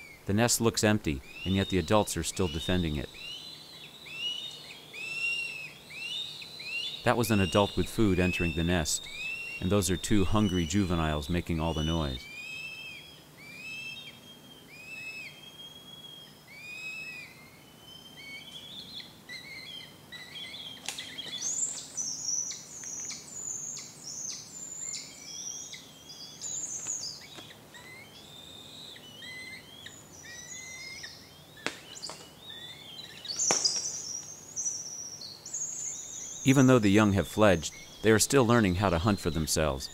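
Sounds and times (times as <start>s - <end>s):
high squealing hawk calls: 0.0s - 39.9s
young hawks begging calls: 0.0s - 39.9s.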